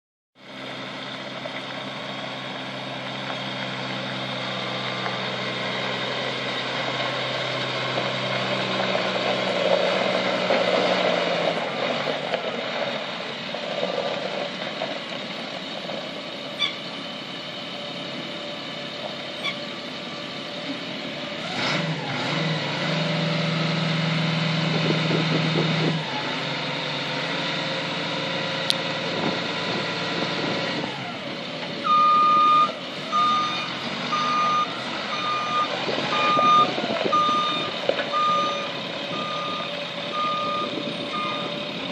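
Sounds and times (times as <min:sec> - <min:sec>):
truck engine running: 0:00.4 - 0:41.9.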